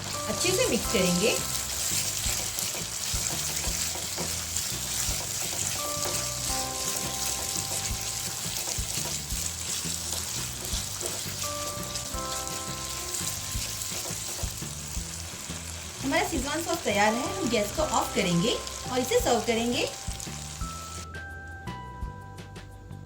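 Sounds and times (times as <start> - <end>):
sauce sizzling in hot oil: 0.0 - 21.1
soft background music: 0.0 - 23.0.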